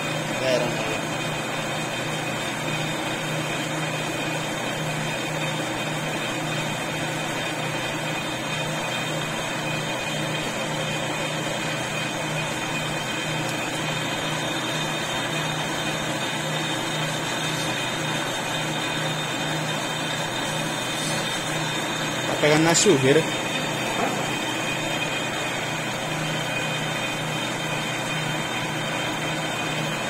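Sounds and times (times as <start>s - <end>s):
lathe humming with pulsing throb: 0.0s - 30.0s.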